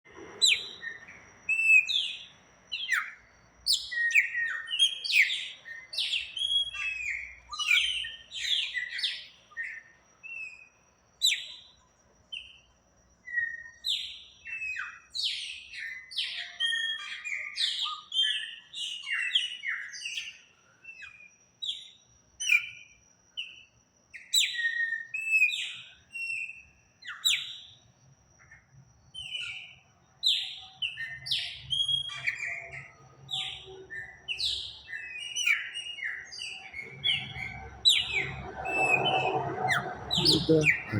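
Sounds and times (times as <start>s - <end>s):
songbirds chirping and whistling: 0.1s - 40.9s.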